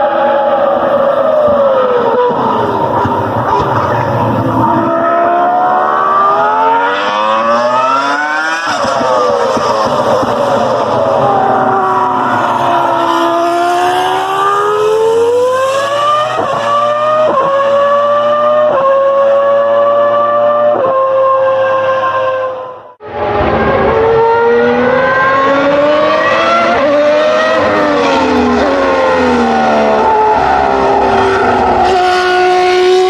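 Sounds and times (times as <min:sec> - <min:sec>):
racing car engine accelerating: 0:00.0 - 0:33.0.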